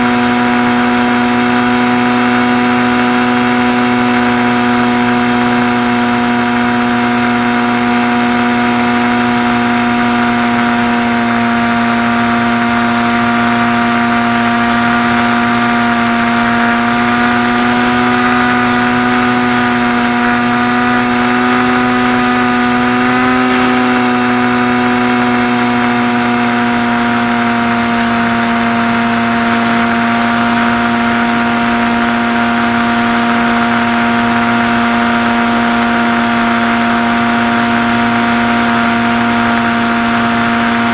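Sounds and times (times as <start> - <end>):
model airplane motor droning: 0.0 - 40.9.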